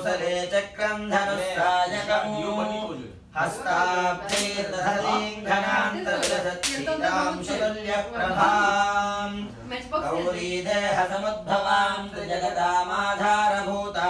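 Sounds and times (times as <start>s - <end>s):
men chanting: 0.0s - 14.0s.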